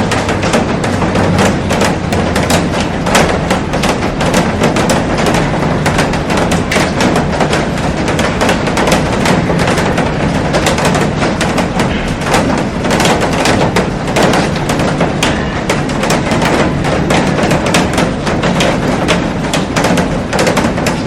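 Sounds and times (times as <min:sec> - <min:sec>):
heavy rain on glass roof: 0:00.0 - 0:21.0.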